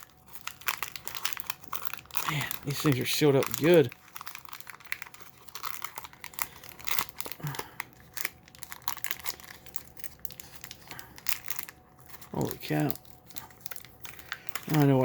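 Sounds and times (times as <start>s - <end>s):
paper wrapper crinkling and tearing: 0.0s - 15.0s.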